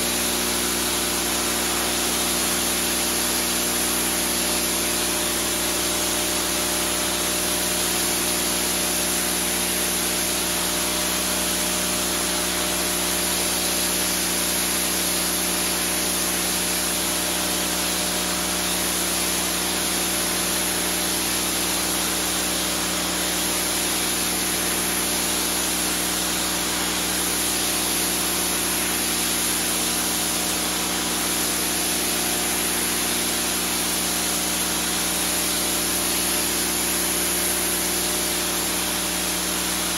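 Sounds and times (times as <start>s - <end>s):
pressure washer spray hiss: 0.0s - 39.9s.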